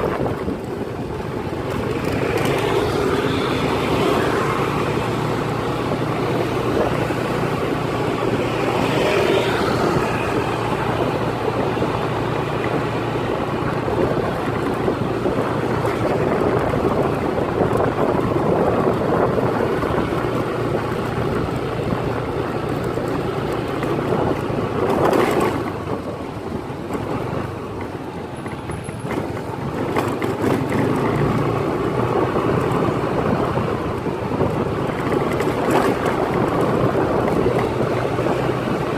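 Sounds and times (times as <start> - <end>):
road vehicle running noise: 0.0 - 38.9
wind buffeting microphone: 0.0 - 38.9.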